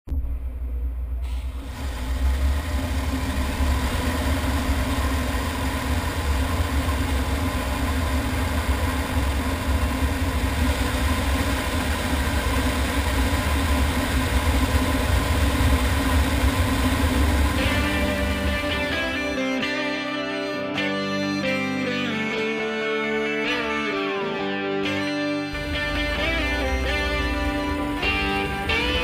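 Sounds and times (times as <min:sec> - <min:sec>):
harvester engine rumbling: 0:00.1 - 0:20.1, 0:25.0 - 0:29.0.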